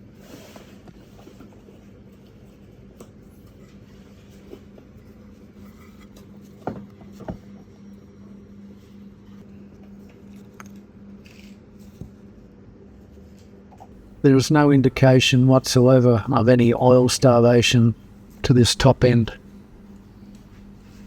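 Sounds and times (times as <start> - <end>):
steady low hum: 1.1 - 21.0.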